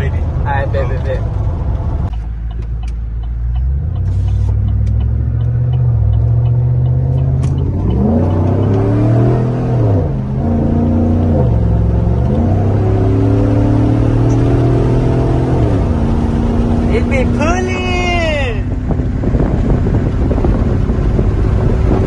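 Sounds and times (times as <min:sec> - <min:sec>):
pickup engine accelerating hard: 0:03.4 - 0:22.0.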